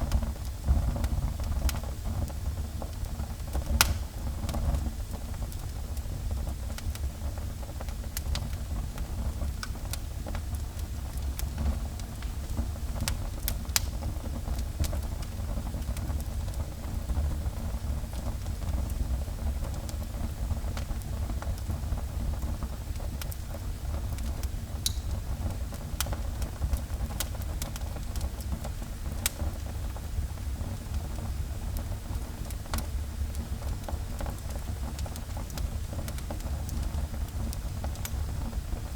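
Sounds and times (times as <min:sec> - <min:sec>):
fire crackles and pops: 0:00.0 - 0:38.9
fire low rumble: 0:00.0 - 0:38.9.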